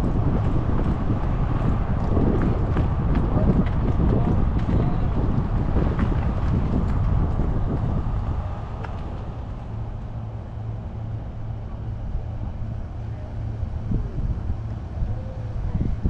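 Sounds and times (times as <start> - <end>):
road rumble: 0.0 - 16.0
vehicle engine hum: 0.0 - 16.0.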